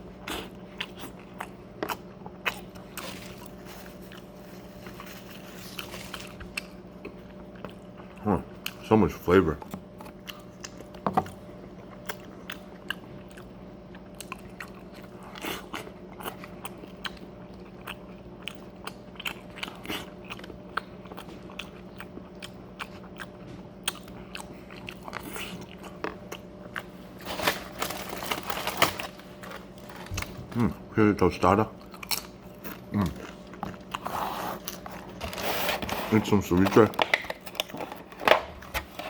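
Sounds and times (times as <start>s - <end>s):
steady low hum: 0.0s - 39.0s
wet chewing and crunching: 0.0s - 39.0s.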